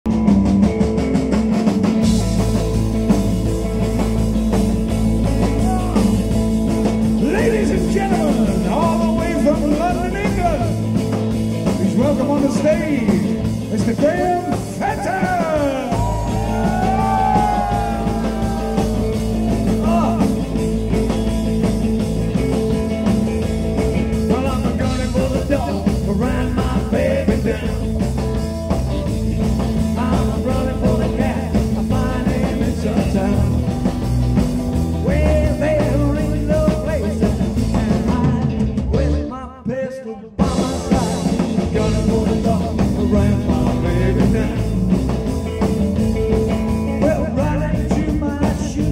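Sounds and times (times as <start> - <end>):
bass: 0.0 - 48.9
drums: 0.0 - 48.9
electric guitars: 0.1 - 48.9.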